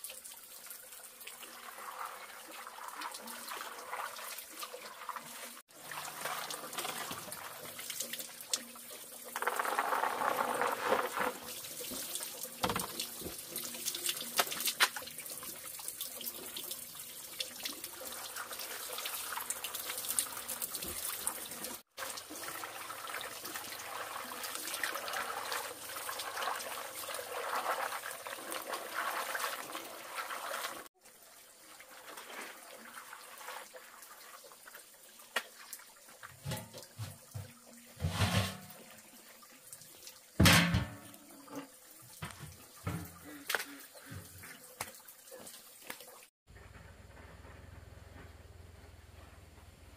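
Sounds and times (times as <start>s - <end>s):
water running and splashing: 0.0s - 46.3s.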